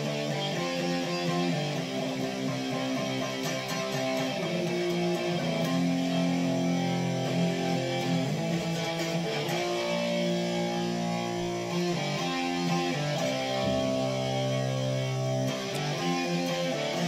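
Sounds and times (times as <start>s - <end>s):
guitar music with held chords: 0.0s - 17.0s.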